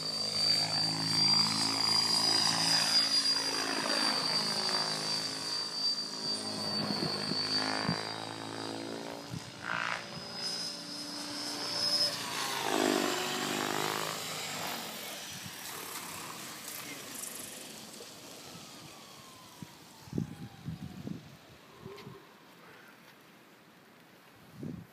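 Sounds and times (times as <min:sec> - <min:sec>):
rc helicopter rotor and motor whine: 0:00.0 - 0:22.4.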